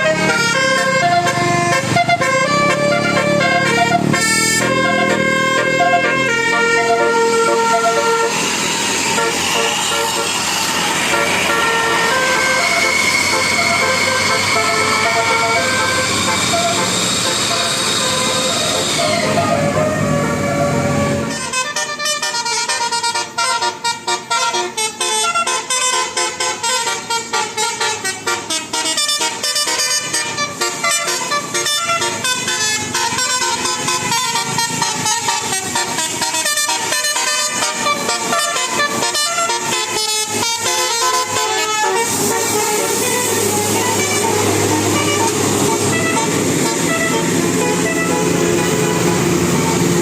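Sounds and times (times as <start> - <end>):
musical air horn tune: 0.0 - 50.0.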